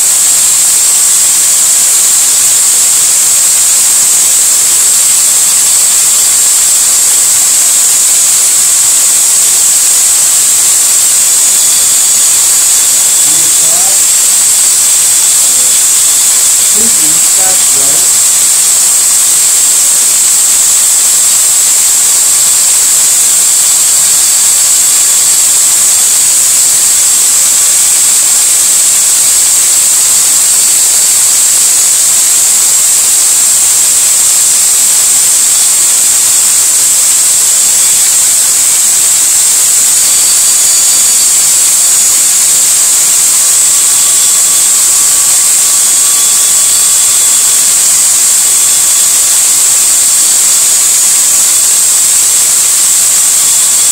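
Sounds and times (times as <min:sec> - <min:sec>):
electric drill whining: 0:01.9 - 0:50.1, 0:50.8 - 0:51.8.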